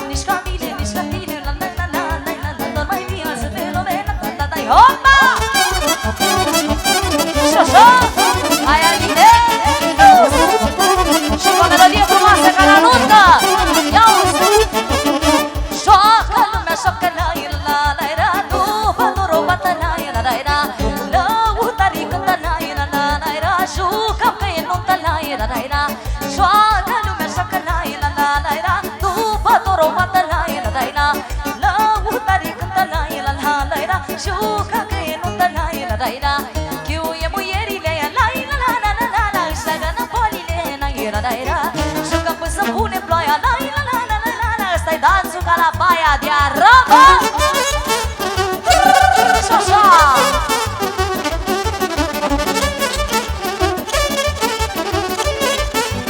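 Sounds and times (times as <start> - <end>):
live folk dance music: 0.0 - 56.0.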